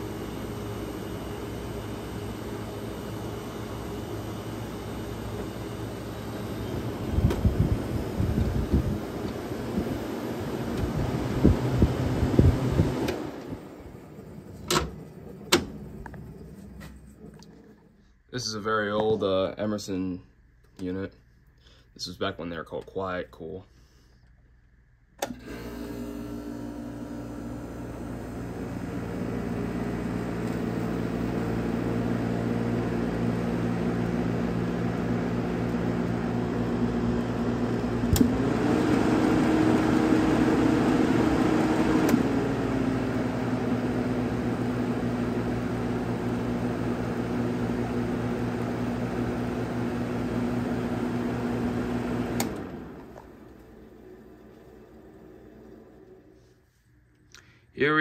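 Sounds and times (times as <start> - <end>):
air conditioner fan and motor hum: 0.0 - 58.0.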